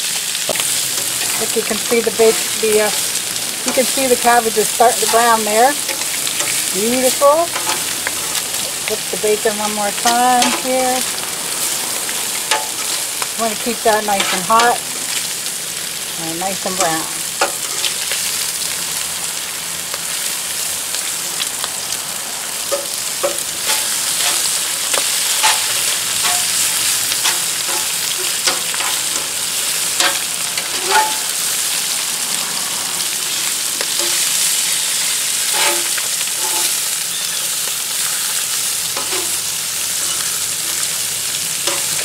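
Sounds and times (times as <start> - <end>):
food sizzling on a griddle: 0.0 - 42.0.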